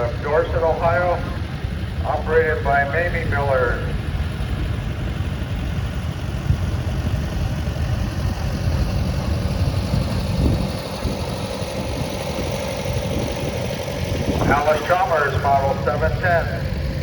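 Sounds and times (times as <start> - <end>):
steady whine: 0.0 - 17.0
tractor engine running: 0.0 - 17.0.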